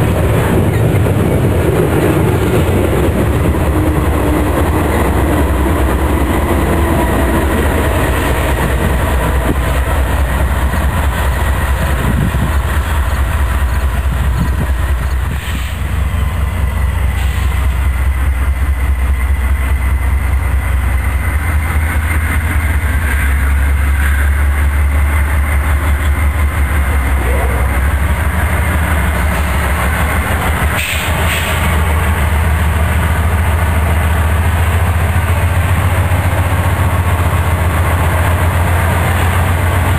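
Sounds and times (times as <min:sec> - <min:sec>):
diesel locomotives rumbling: 0:00.0 - 0:39.9
freight train rumble and wheel clatter: 0:00.0 - 0:39.9.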